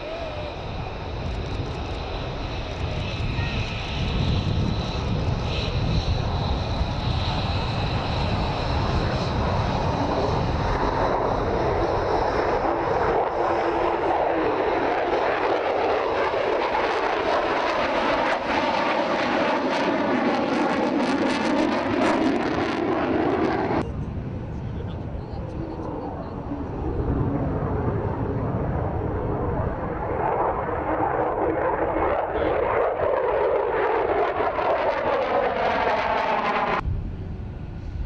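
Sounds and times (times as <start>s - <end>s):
aircraft engine running: 0.0s - 38.0s.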